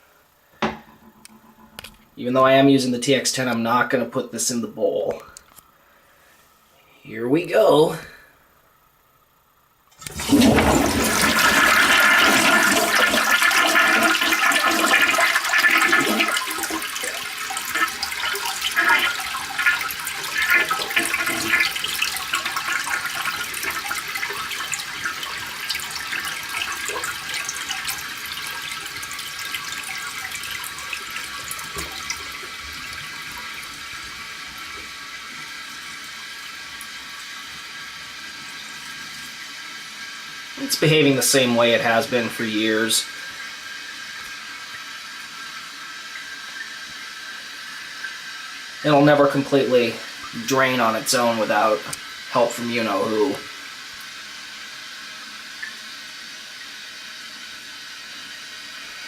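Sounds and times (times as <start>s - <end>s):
toilet flushing: 10.0s - 59.0s
water gurgling: 10.0s - 59.0s.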